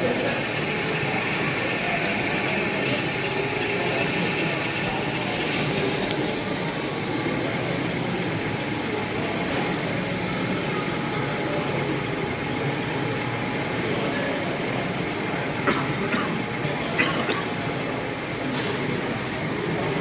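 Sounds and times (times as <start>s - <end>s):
hall background hum: 0.0s - 20.0s
model trains running: 0.0s - 20.0s.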